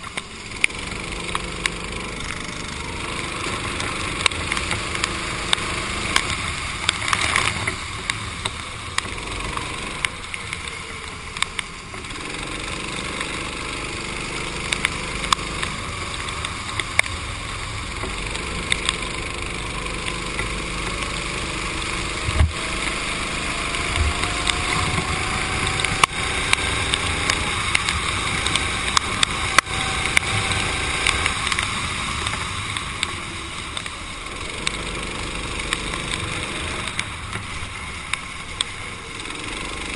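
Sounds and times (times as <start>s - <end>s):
hiss of spray and wind: 0.0s - 39.9s
muffled kart engine: 0.0s - 39.9s.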